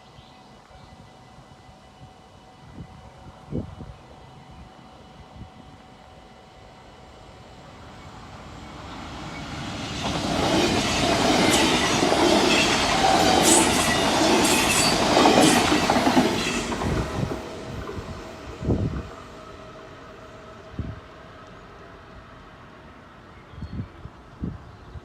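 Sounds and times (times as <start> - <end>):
train passing: 1.2 - 24.3.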